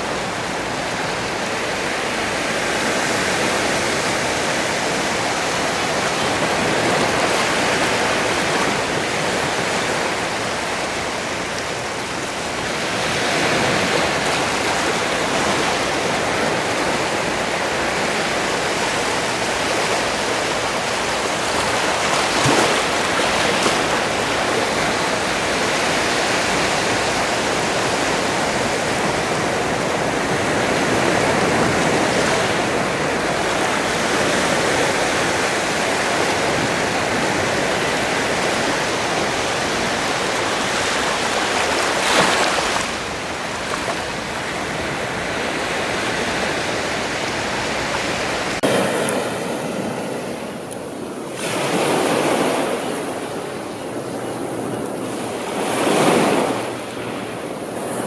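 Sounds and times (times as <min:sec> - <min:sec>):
sea waves washing on shore: 0:00.0 - 0:58.0
wave splash: 0:00.0 - 0:58.0.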